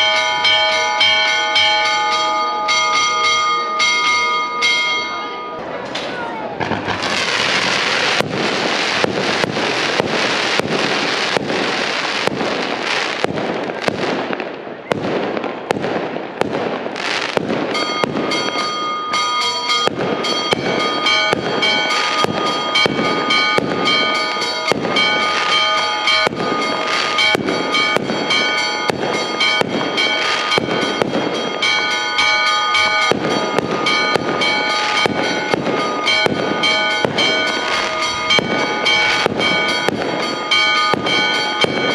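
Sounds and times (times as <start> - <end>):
church bells ringing: 0.0 - 13.3, 17.0 - 41.9
firework cracks: 5.9 - 18.8, 19.8 - 41.9
firecracker bangs: 6.6 - 41.9.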